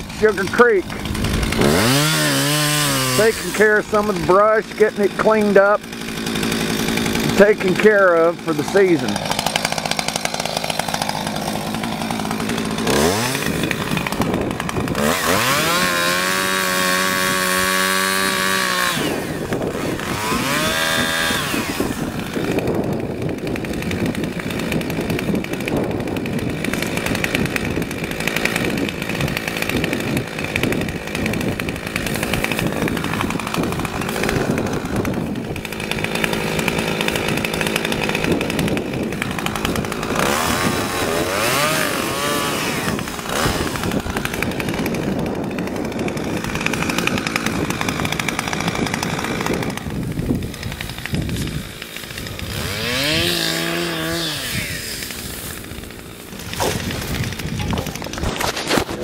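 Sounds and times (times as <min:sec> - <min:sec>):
chainsaw cutting brush: 0:00.0 - 0:59.0.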